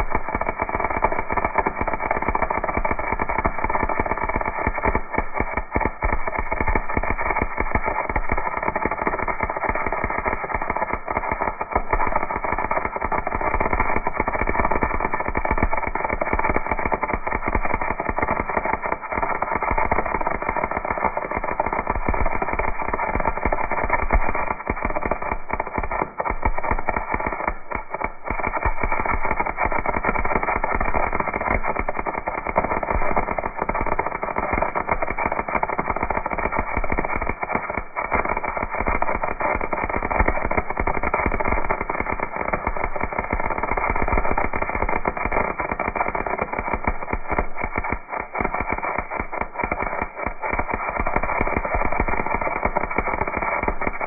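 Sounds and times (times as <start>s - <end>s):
welder arc crackling: 0.0s - 54.0s.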